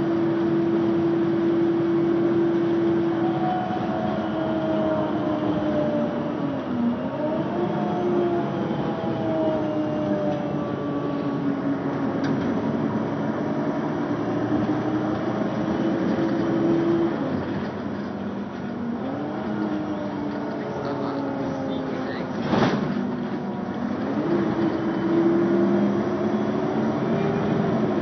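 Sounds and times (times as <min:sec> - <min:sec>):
bus engine at full throttle: 0:00.0 - 0:28.0
road noise: 0:00.0 - 0:28.0.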